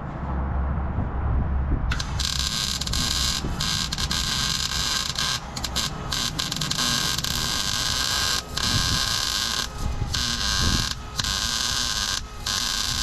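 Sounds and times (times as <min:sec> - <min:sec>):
welding arc crackling: 0:01.9 - 0:13.0.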